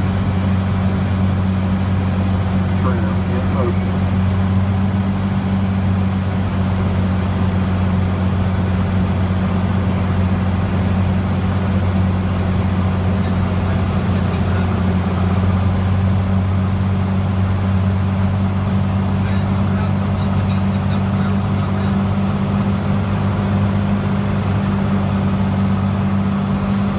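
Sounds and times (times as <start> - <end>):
aircraft engine and propeller drone: 0.0 - 26.9.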